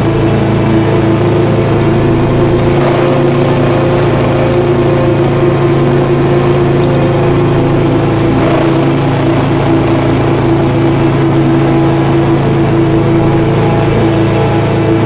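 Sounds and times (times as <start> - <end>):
dark ambient drone music: 0.0 - 15.0.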